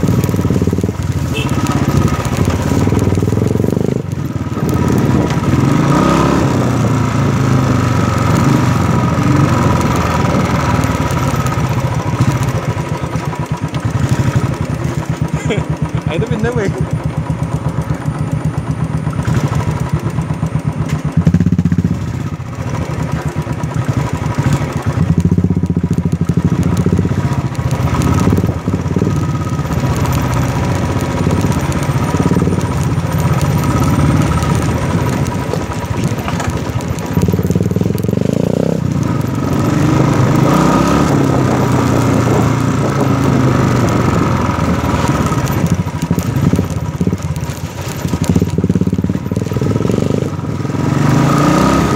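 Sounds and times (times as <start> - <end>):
motorcycle engine revving: 0.0 - 51.9
second motorcycle engine: 0.0 - 51.9.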